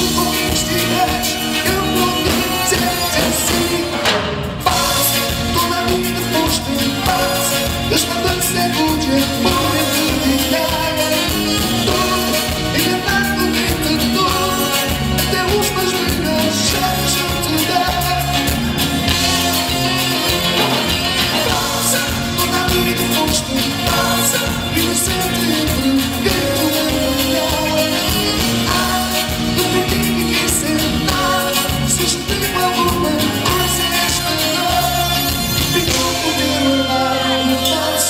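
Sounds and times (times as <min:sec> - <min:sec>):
live band playing: 0:00.0 - 0:38.0.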